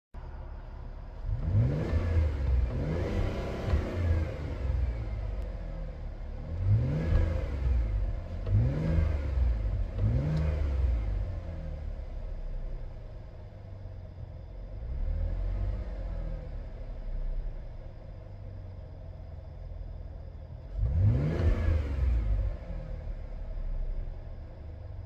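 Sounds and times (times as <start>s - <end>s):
car engine idling and revving: 0.2s - 25.0s.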